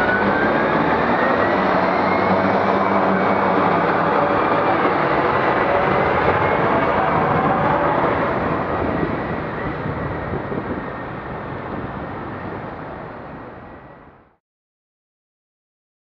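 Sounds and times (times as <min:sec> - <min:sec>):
vehicle and road noise: 0:00.0 - 0:14.4.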